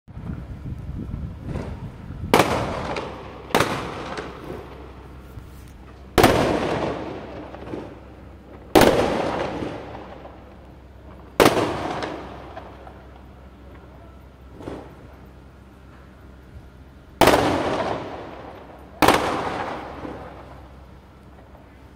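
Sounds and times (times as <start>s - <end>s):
firecrackers bursting with echo: 1.4s - 21.9s.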